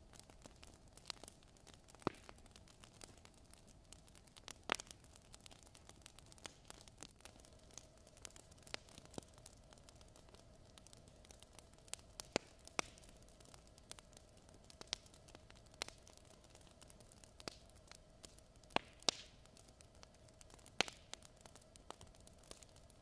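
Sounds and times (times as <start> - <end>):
fire crackling in fireplace: 0.0 - 23.0.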